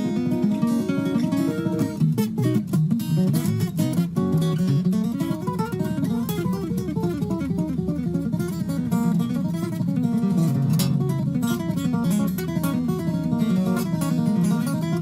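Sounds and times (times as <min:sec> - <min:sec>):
acoustic guitar melody: 0:00.0 - 0:15.0.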